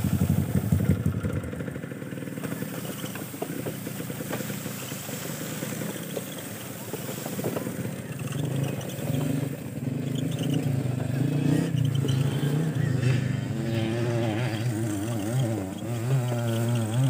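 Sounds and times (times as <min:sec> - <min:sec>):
dirt bike engines: 0:00.0 - 0:17.0.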